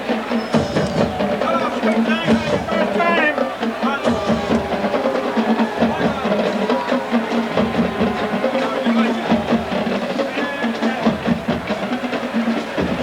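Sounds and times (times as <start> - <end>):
drum line beat: 0.0 - 13.0.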